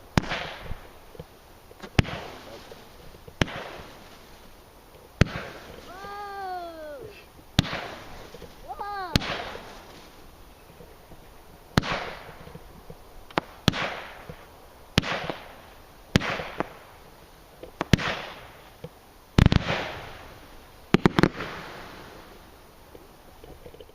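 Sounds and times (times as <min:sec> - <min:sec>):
firework launch pops: 0:00.0 - 0:04.5, 0:05.2 - 0:10.3, 0:11.1 - 0:17.0, 0:17.6 - 0:22.4
firework hiss and crackle: 0:00.0 - 0:23.9.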